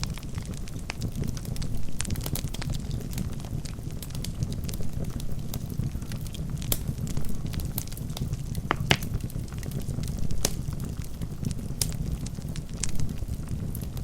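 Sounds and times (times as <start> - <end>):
burning logs crackling and popping: 0.0 - 14.0
low rumble of flames: 0.0 - 14.0.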